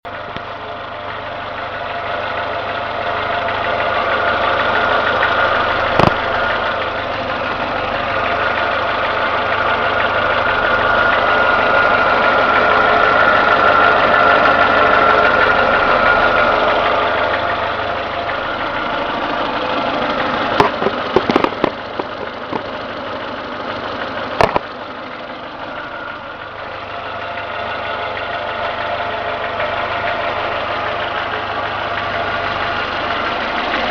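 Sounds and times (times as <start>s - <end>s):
engine knocking: 0.0s - 33.9s
car engine running: 0.1s - 33.9s.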